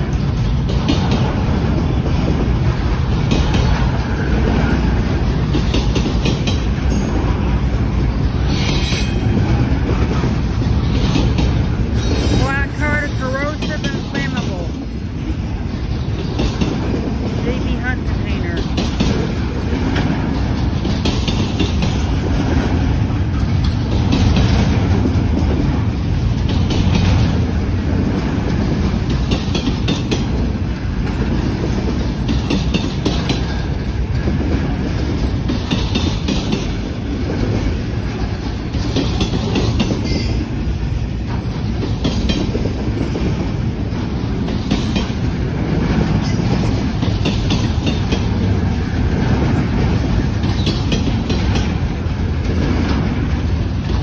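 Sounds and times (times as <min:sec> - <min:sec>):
clickety-clack over rail joints: 0:00.0 - 0:54.0
rumble of train wheels on rail: 0:00.0 - 0:54.0.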